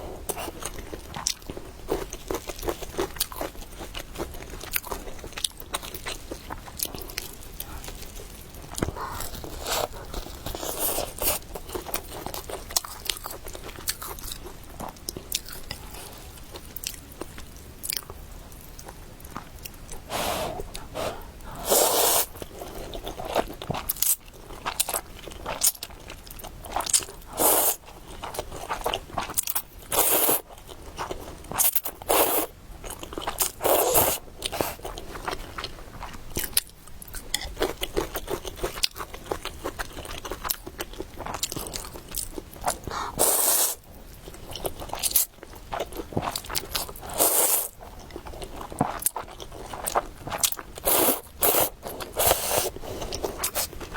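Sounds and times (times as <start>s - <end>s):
person chewing food: 0.3s - 53.9s.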